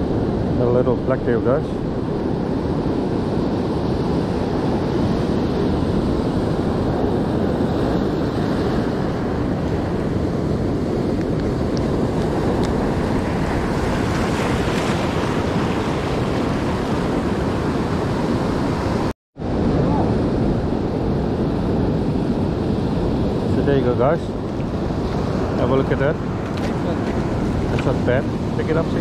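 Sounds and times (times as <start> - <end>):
ocean surf breaking on rocks: 0.0 - 29.0
wind on microphone: 0.0 - 29.0.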